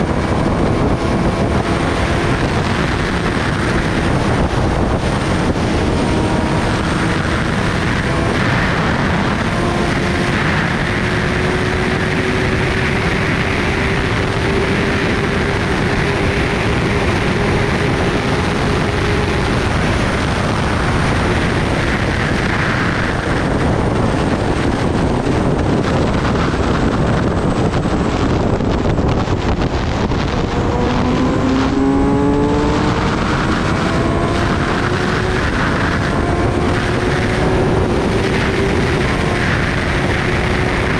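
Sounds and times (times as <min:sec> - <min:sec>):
motorcycle engine accelerating: 0:00.0 - 0:40.9
wind noise on microphone: 0:00.0 - 0:40.9.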